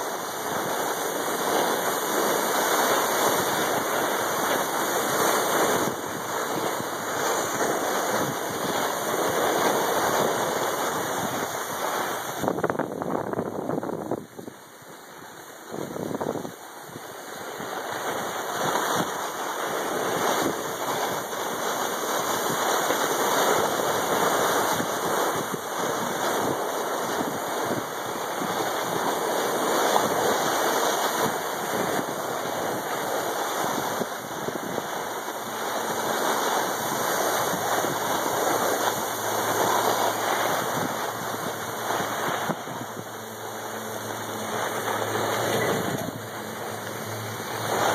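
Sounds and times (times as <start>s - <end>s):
skis scraping packed snow: 0.0s - 47.9s
wind buffeting microphone: 0.0s - 47.9s.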